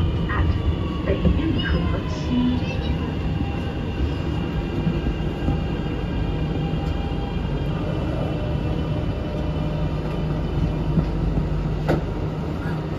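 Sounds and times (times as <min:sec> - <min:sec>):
metro train rumble: 0:00.0 - 0:12.9.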